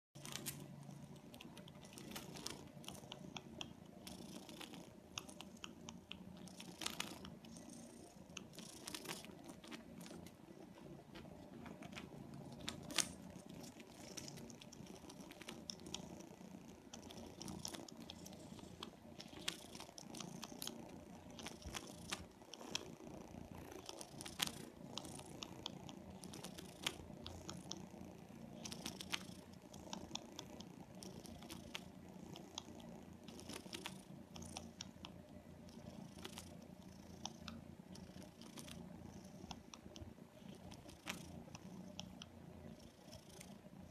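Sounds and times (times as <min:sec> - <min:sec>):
cat purring: 0:00.2 - 0:43.9.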